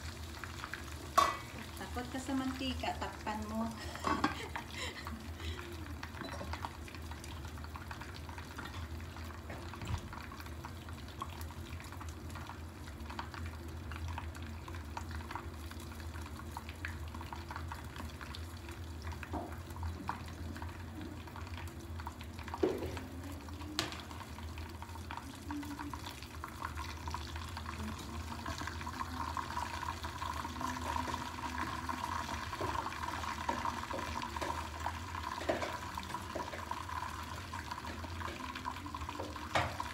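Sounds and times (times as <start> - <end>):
muffled frying sizzle: 0.0 - 39.9.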